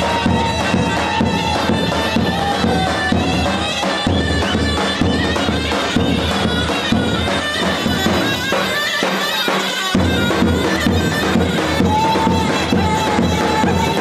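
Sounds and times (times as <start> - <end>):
shrill reedy pipe melody: 0.0 - 14.0.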